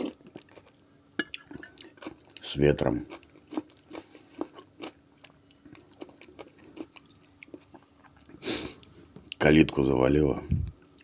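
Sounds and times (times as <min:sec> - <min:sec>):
wet chewing: 0:00.0 - 0:09.4.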